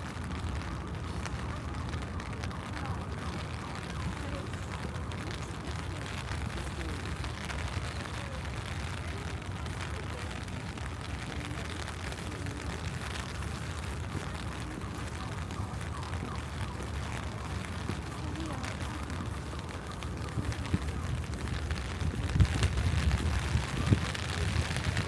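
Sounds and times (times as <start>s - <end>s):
faint voices: 0.0s - 25.0s
low traffic rumble: 0.0s - 25.0s.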